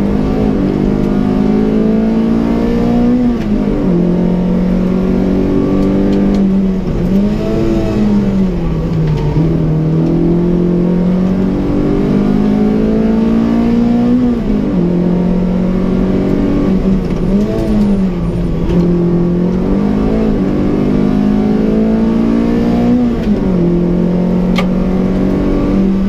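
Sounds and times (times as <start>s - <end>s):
car engine under racing load: 0.0s - 26.0s.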